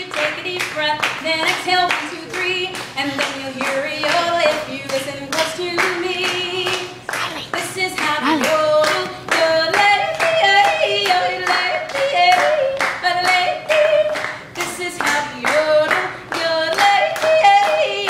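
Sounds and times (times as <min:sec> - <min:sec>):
hands clapping a beat: 0:00.0 - 0:18.0.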